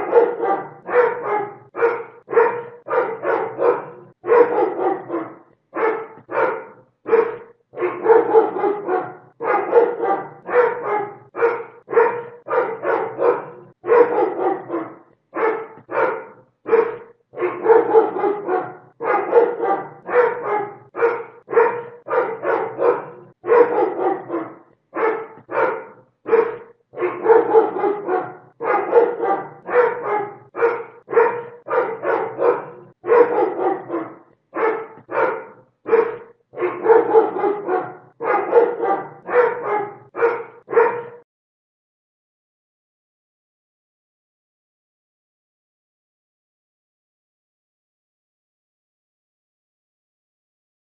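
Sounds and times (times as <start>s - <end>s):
dog barking loudly: 0.0s - 41.2s.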